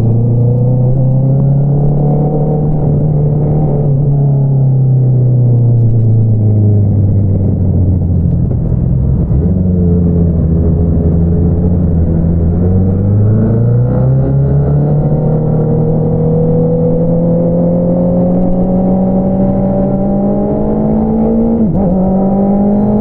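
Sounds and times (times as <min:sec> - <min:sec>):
motorcycle engine: 0:00.0 - 0:23.0.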